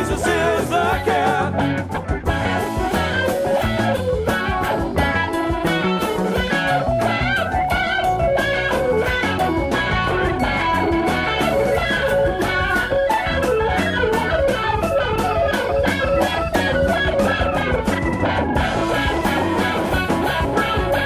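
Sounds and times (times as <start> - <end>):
electric guitar lead line: 0.0 - 21.0
steady drum beat: 0.0 - 21.0.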